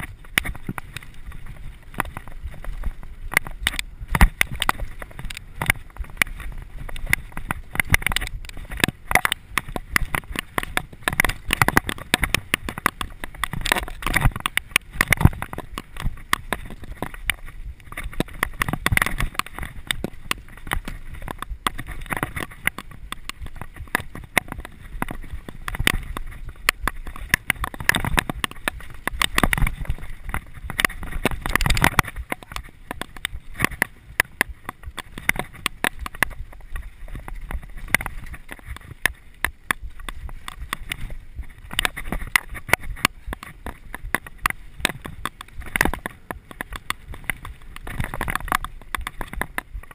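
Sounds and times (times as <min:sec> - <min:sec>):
bike clattering over bumps: 0:00.0 - 0:49.9.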